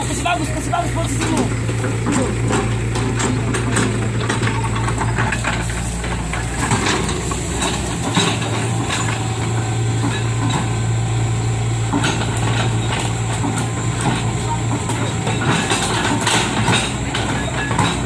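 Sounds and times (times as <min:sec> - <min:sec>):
loader truck engine running: 0:00.0 - 0:18.0
metal clanks and rattles: 0:00.0 - 0:18.0.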